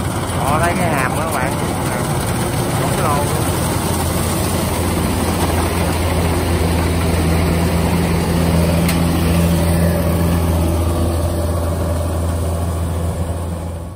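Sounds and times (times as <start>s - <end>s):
combine harvester drone: 0.0s - 13.9s.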